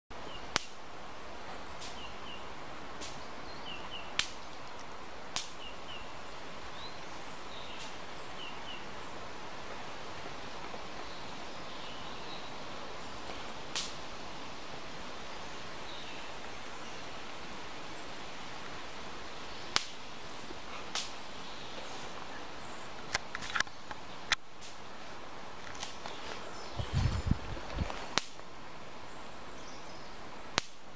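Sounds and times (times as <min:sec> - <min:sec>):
outdoor background hiss: 0:00.1 - 0:30.9.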